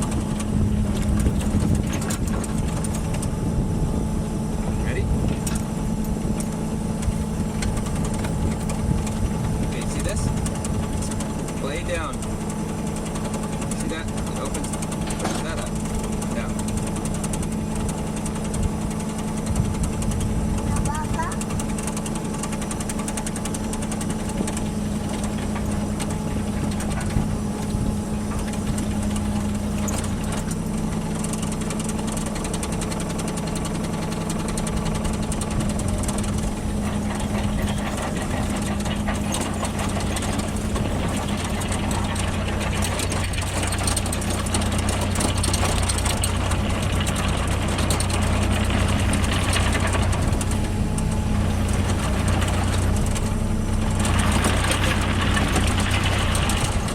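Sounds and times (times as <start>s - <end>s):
work machine engine running: 0.0s - 56.9s.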